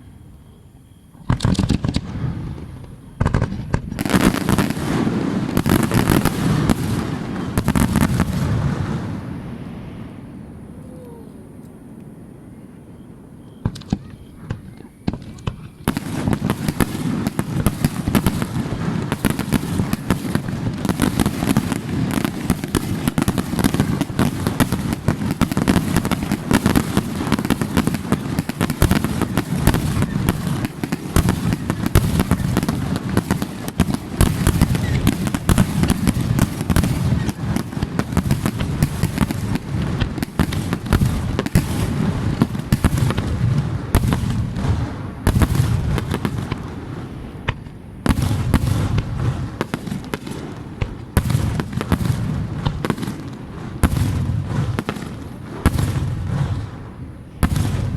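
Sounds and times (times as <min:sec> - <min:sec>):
fireworks booms and crackling: 0:01.1 - 0:10.8, 0:13.6 - 0:57.9.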